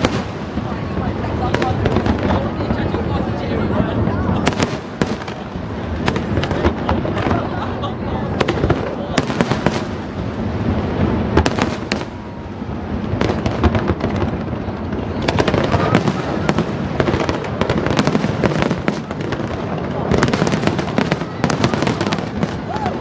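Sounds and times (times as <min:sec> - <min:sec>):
fireworks bursts rumbling: 0:00.0 - 0:23.0
fireworks crackling: 0:00.0 - 0:23.0.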